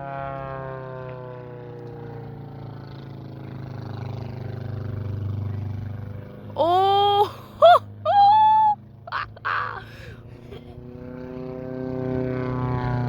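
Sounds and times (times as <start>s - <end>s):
propeller aircraft engine droning: 0.0s - 6.6s, 7.3s - 8.1s, 8.7s - 13.0s.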